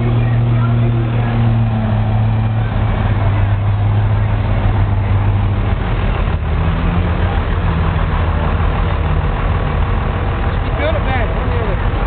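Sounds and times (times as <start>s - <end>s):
diesel pickup engine running: 0.0s - 12.0s.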